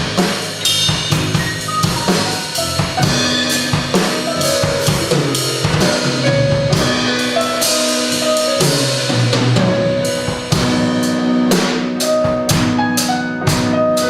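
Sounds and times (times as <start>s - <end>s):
jazz trio playing: 0.0s - 14.0s.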